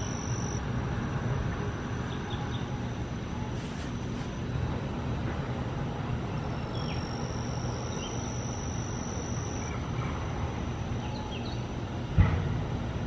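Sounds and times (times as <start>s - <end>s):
thin high whine: 0.0s - 11.9s.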